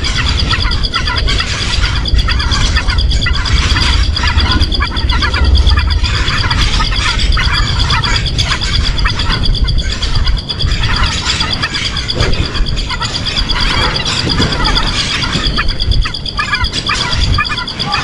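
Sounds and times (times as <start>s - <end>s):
low rumble: 0.0s - 17.5s
birds chirping: 0.0s - 18.0s
pulsing high drone: 0.0s - 18.0s.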